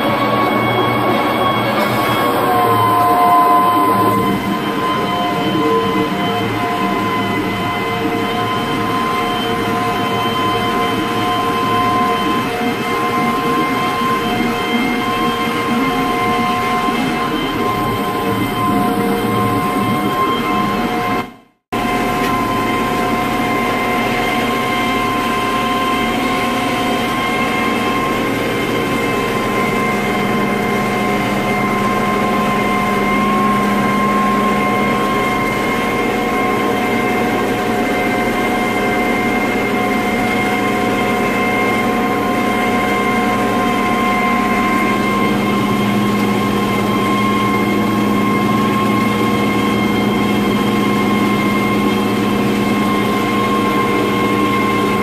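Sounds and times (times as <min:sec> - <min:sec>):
steady high whine: 0:00.0 - 0:55.0
tractor diesel engine drone: 0:00.0 - 0:55.0.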